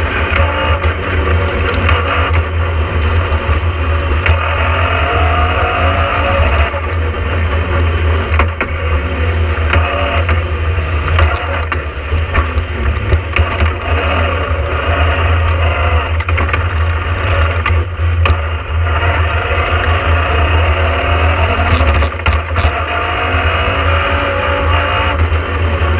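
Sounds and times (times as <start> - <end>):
rally car engine droning: 0.0 - 25.9
rattles: 0.0 - 25.9.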